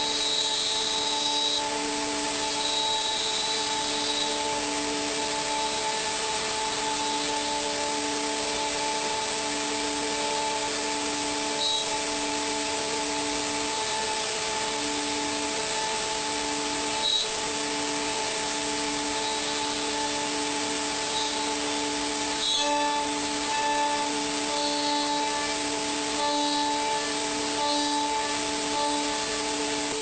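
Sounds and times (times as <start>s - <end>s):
machine whirring: 0.0s - 30.0s.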